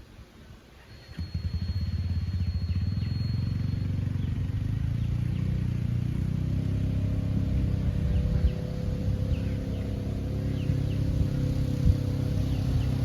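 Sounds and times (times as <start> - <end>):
faint bird chirps: 0.1 - 13.0
engine rumbling: 1.0 - 13.0.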